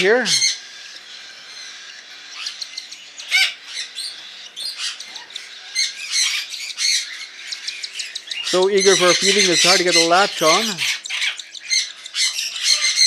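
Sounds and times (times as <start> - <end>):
cockatiel chicks begging squawks: 0.0 - 13.0.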